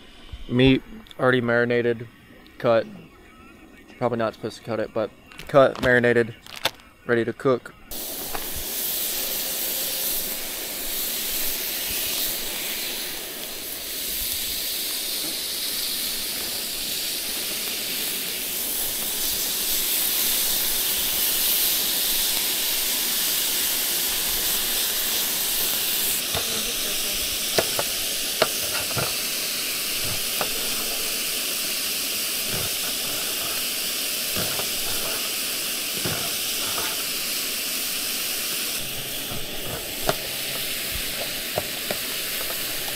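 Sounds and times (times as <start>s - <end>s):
meat sizzling: 4.6s - 42.9s.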